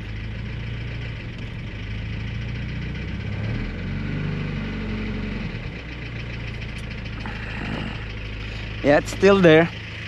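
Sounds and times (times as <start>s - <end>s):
car engine idling: 0.0s - 10.0s
engine ticking: 0.0s - 10.0s.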